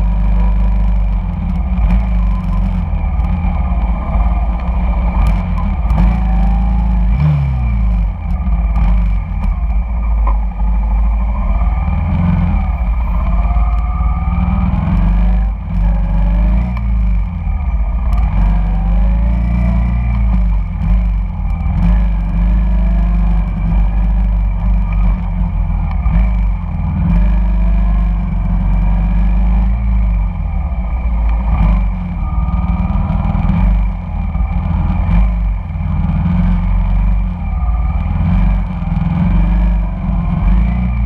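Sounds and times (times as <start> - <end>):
motor scooter engines: 0.0 - 41.0
motorcycle engine rumbling: 0.0 - 41.0.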